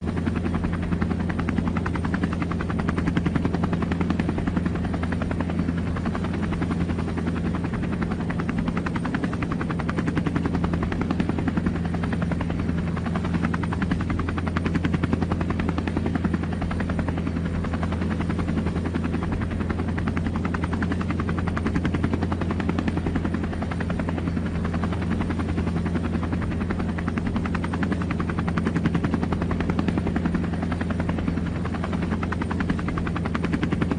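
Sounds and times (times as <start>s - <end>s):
helicopter rotor chop: 0.0s - 33.9s.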